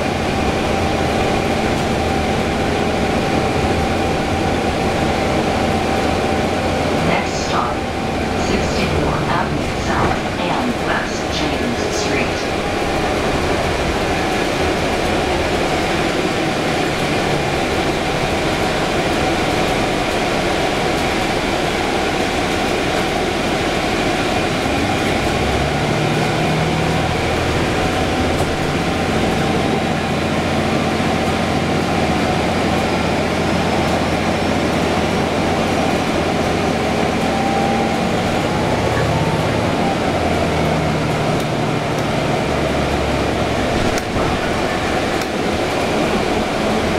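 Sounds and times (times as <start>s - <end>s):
bus road and drivetrain rumble: 0.0s - 46.9s
low engine hum: 0.0s - 46.9s.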